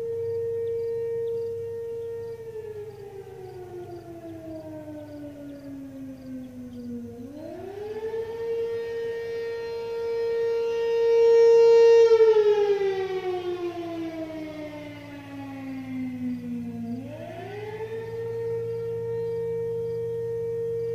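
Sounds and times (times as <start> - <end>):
wavering warning siren: 0.0 - 20.9.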